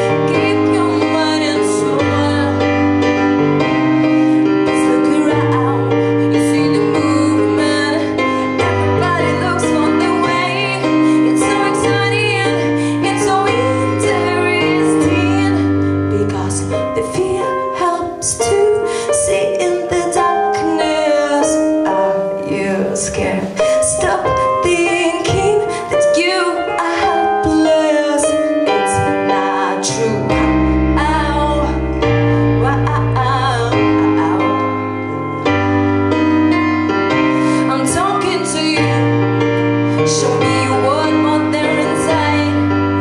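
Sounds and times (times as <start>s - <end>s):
woman singing: 0.0s - 35.6s, 37.5s - 43.0s
keyboard chords and bass: 0.0s - 43.0s.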